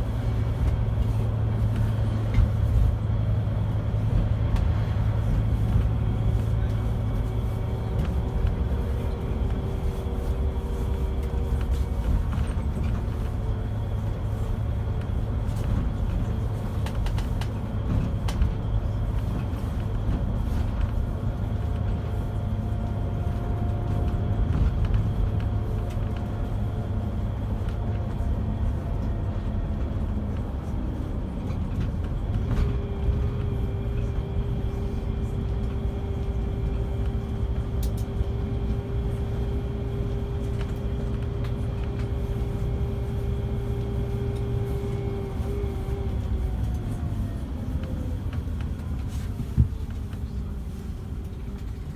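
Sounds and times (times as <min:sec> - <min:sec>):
diesel engine low drone: 0:00.0 - 0:51.9.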